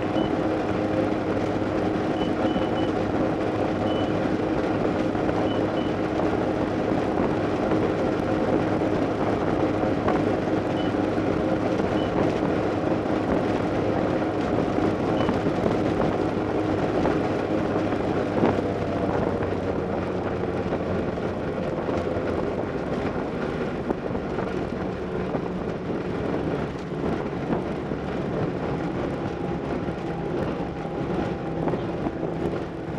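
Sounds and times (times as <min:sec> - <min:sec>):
boat engine running: 0:00.0 - 0:32.9
hull rushing through water: 0:00.0 - 0:32.9.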